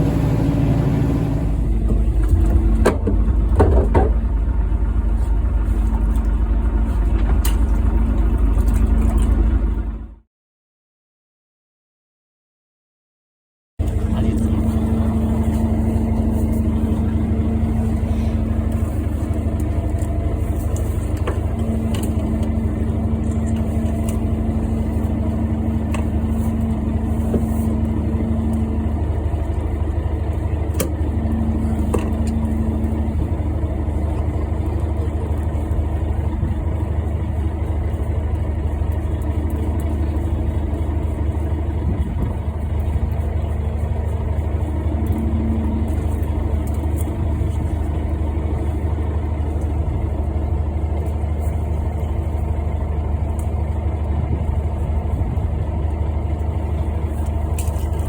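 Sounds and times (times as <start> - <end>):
boat engine idling: 0.0 - 10.2, 13.8 - 58.0.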